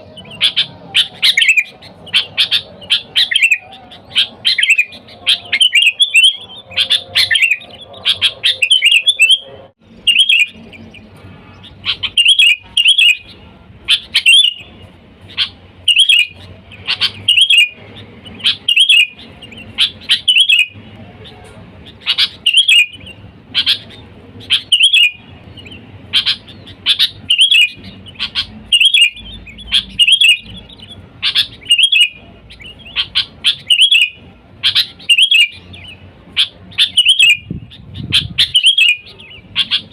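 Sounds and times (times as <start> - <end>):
bulbul calling loudly: 0.0 - 39.9.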